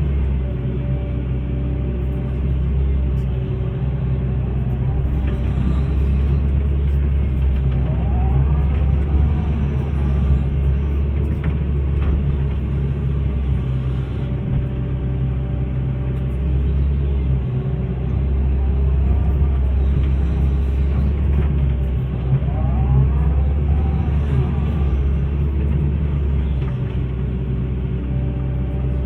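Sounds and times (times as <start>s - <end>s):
diesel engine droning: 0.0s - 29.0s
hydraulic whine: 0.0s - 29.0s.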